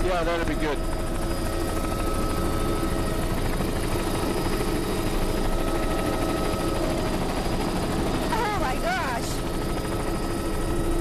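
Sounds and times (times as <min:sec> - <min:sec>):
helicopter rotor and engine drone: 0:00.0 - 0:11.0
steady whining tones: 0:00.0 - 0:11.0.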